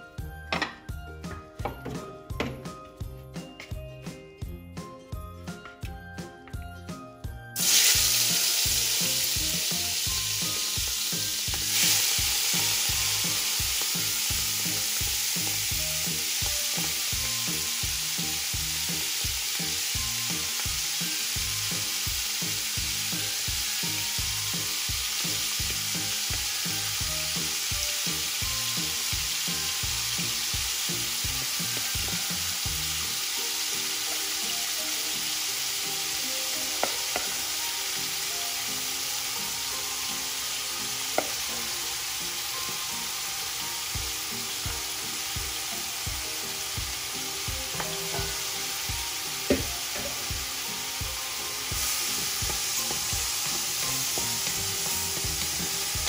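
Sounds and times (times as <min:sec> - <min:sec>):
shrimp sizzling in hot oil: 0:07.6 - 0:56.0.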